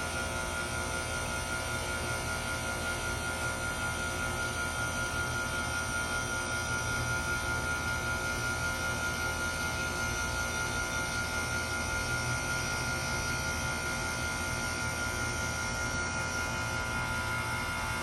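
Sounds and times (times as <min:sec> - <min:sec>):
heat pump mechanical hum: 0:00.0 - 0:18.0.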